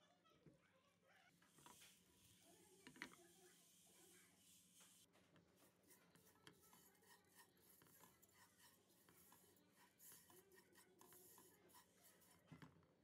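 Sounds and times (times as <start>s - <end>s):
spatula scraping in a pot: 1.3s - 12.6s.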